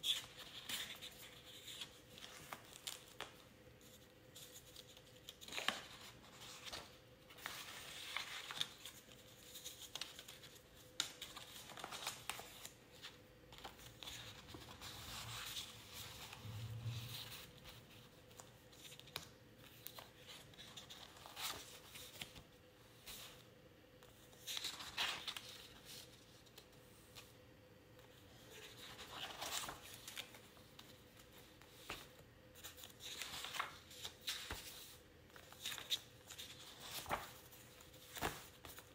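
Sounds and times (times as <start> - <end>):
paper pages rustling: 0.0 - 27.3, 28.0 - 38.9
faint steady hum: 0.0 - 38.9.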